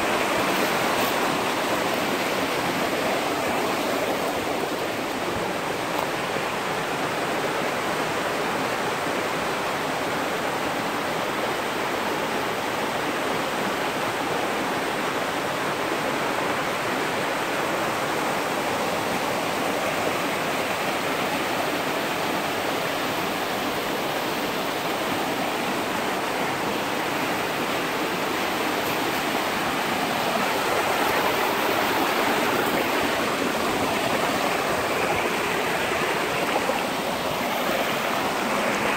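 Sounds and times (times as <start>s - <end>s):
stream rushing over boulders: 0.0s - 38.9s.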